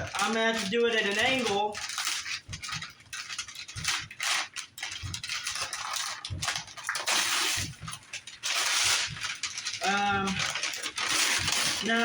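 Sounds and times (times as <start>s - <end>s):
cardboard rustling and ripping: 0.0s - 12.0s.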